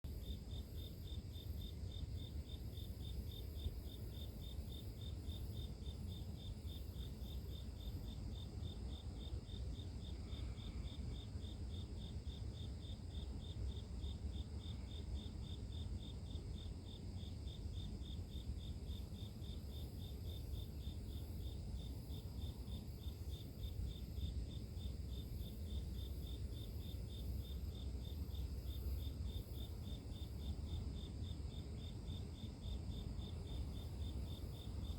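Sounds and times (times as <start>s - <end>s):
insect chirping: 0.1s - 34.9s.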